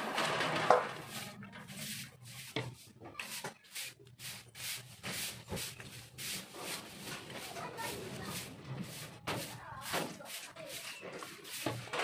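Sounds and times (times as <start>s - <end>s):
scratchy scrubbing strokes: 0.9s - 12.0s.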